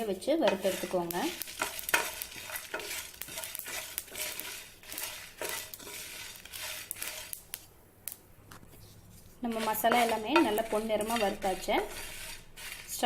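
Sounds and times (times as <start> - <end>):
spatula scraping spices in a pan: 0.0 - 7.6, 8.8 - 13.0.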